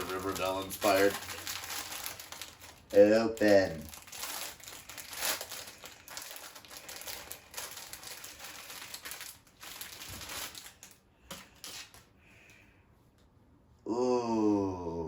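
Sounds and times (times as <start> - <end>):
packaging crinkling and rustling: 0.0 - 12.1.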